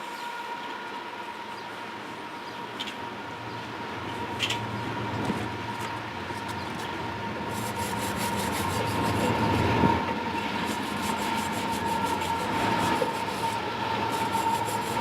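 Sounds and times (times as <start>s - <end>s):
steady whine: 0.0s - 15.0s.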